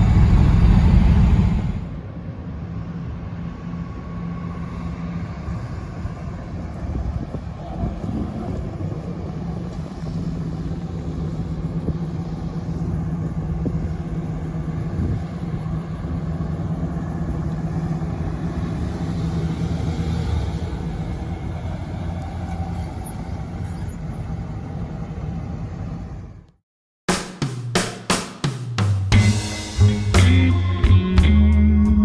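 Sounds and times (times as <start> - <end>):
car engine low drone: 0.0 - 26.5.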